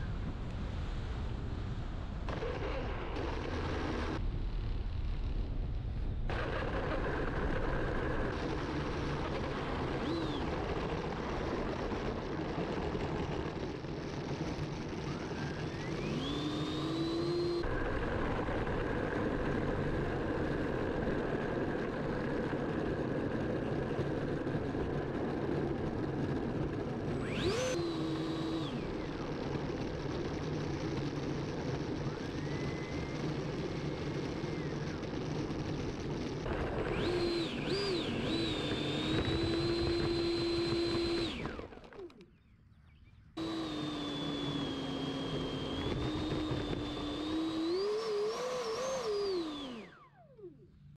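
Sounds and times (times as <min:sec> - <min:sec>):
electric jet fan whining: 0:06.3 - 0:42.5, 0:43.4 - 0:50.9.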